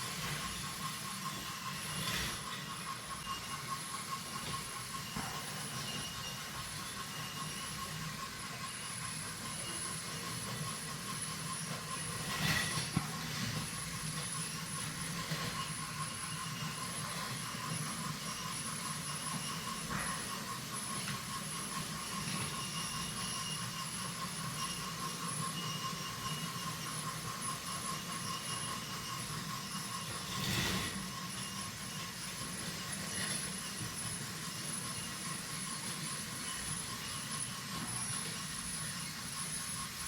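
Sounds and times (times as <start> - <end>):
toy train motors whining: 0.0 - 40.0.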